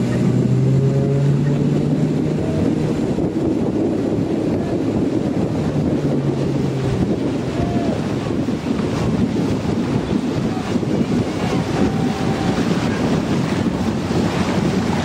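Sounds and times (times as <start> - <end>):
boat engine hum: 0.0 - 15.0
water rushing past hull: 0.0 - 15.0
wind buffeting microphone: 0.0 - 15.0.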